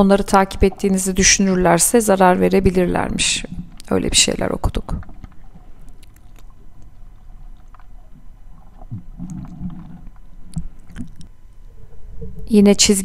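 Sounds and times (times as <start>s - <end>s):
low water gurgle: 0.0s - 13.0s
muffled underwater rumble: 0.0s - 13.0s.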